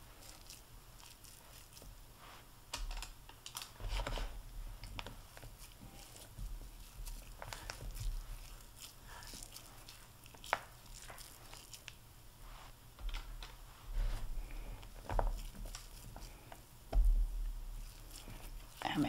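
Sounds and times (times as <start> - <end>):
hands rolling sticky mixture: 0.0 - 19.0.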